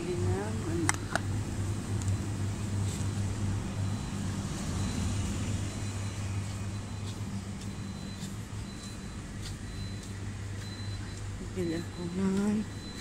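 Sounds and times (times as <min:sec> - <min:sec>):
cooling machinery hum: 0:00.0 - 0:13.0.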